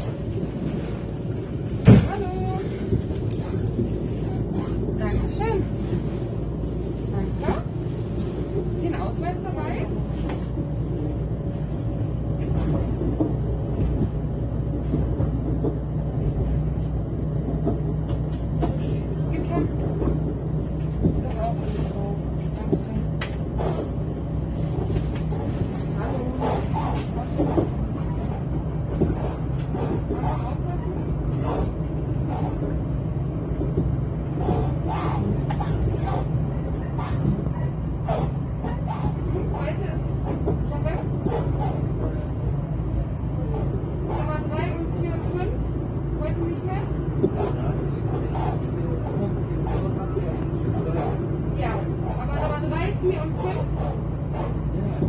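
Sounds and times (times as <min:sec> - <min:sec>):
constant low drone: 0:00.0 - 0:55.0
train wheels rumbling on track: 0:00.0 - 0:55.0.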